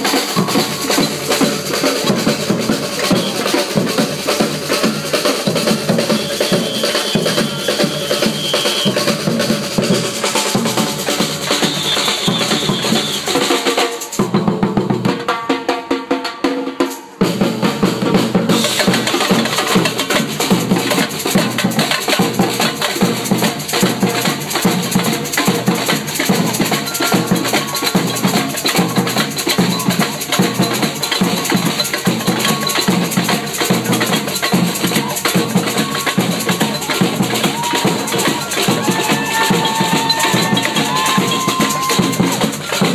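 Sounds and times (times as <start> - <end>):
samba percussion band: 0.0 - 42.9.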